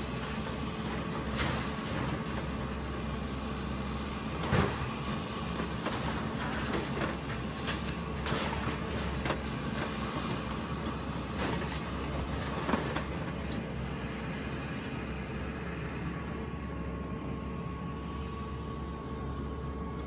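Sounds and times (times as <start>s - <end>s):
demolition machine rumbling: 0.0s - 20.0s.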